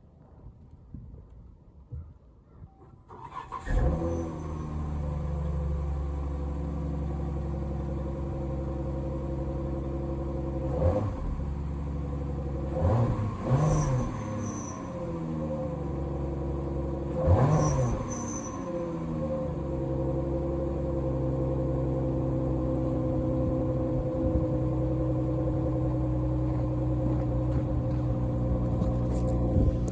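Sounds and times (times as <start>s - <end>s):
car engine starting and idling: 2.9s - 29.9s
engine throttle blips: 3.1s - 29.9s.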